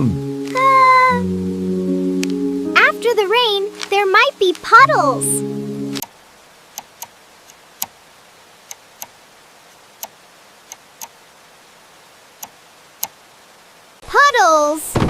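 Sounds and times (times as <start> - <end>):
raindrops dripping: 0.0 - 14.0
faint steady hiss: 0.0 - 15.0.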